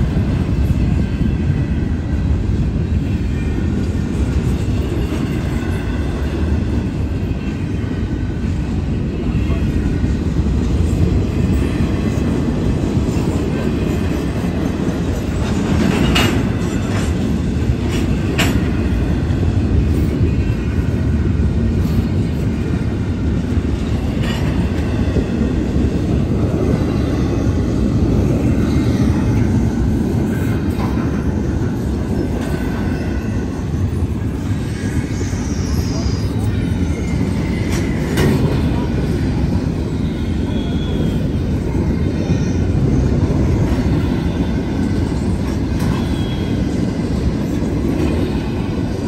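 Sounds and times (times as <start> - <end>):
steel wheels rumbling on rail: 0.0 - 49.0.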